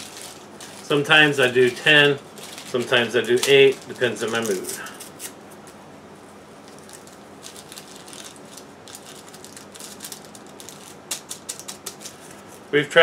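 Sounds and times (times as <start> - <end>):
paper packets crinkling and tearing: 0.0 - 5.4, 6.6 - 12.6.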